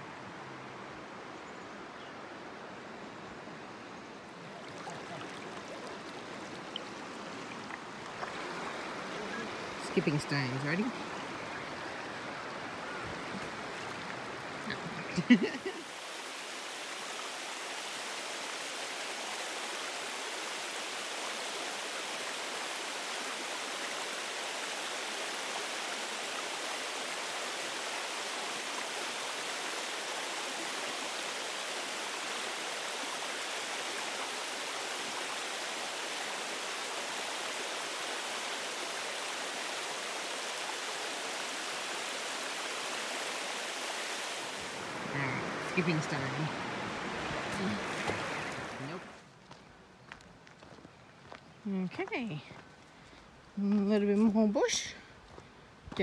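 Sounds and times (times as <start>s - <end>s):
river rushing over rocks: 4.3s - 49.2s.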